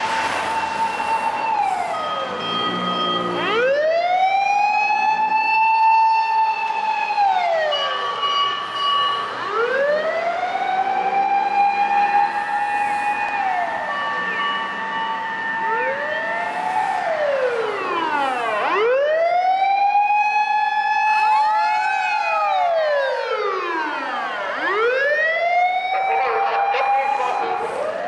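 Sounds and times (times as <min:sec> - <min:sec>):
fire engine sirens wailing: 0:00.0 - 0:28.0.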